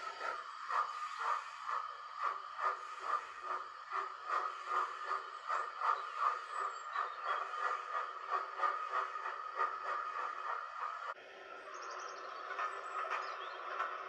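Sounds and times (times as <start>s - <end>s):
steam locomotive chuffing: 0.0s - 14.0s.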